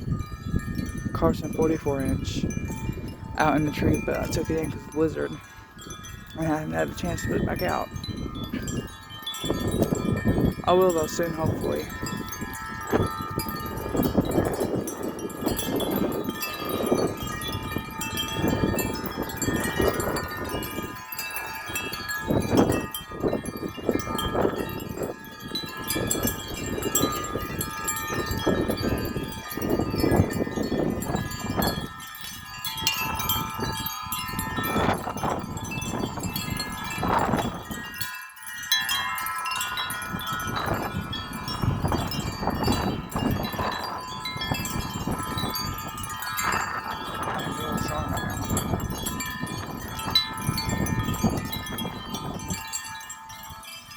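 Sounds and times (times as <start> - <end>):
tubular wind chimes ringing: 0.0 - 53.9
wind buffeting microphone: 0.0 - 53.9.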